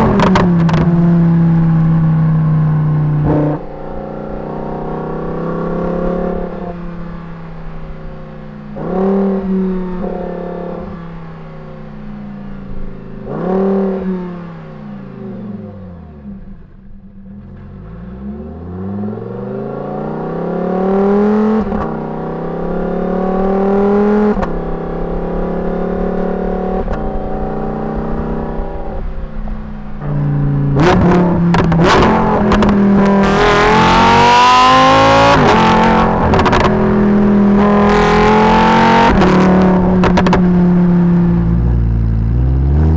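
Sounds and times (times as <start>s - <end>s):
sports car exhaust revving: 0.0s - 12.0s, 12.7s - 42.9s.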